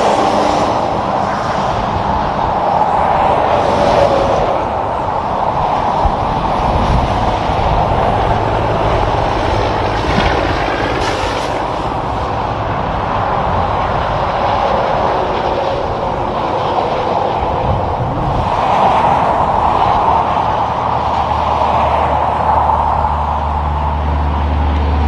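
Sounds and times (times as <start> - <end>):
truck engines droning: 0.0 - 25.0
tyre roar of passing traffic: 0.0 - 25.0.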